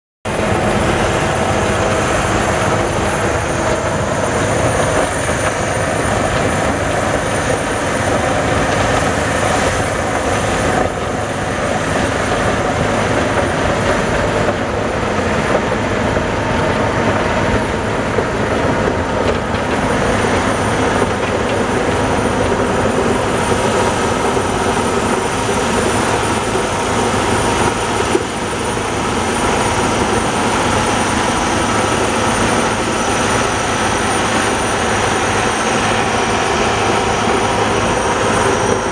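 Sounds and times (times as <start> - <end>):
snowblower engine under load: 0.3 - 38.9.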